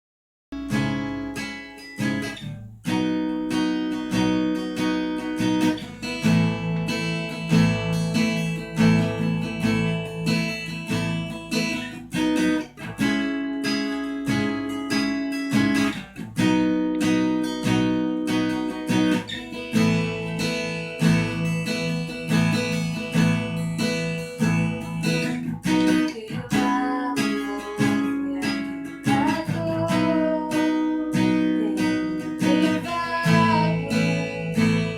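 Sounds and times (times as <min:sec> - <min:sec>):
acoustic guitar strumming chords: 0:00.6 - 0:34.9.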